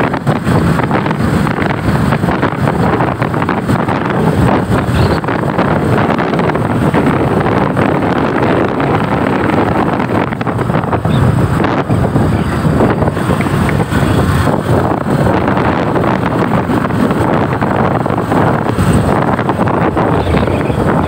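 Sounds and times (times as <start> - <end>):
motorcycle with sidecar running: 0.0 - 21.0
wind buffeting microphone: 0.0 - 21.0.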